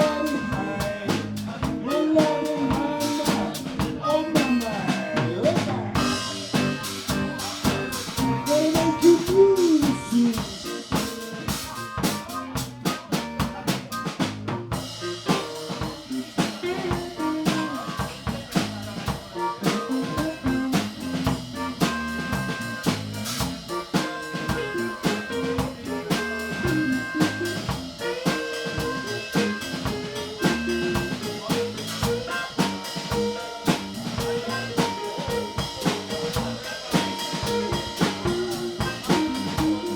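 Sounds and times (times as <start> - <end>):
drum kit beat: 0.0 - 39.9
small live band playing: 0.0 - 39.9.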